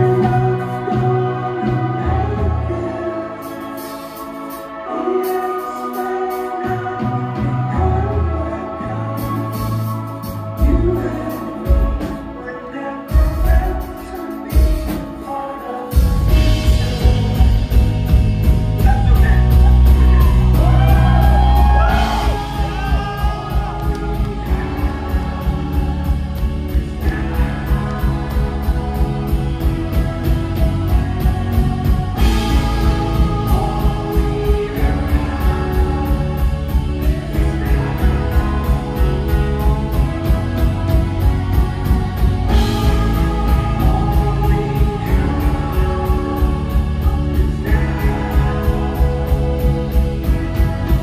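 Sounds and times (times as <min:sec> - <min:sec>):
heavy drums: 0:00.0 - 0:12.5, 0:13.1 - 0:15.3, 0:15.9 - 0:51.0
live rock band with singer: 0:00.0 - 0:51.0.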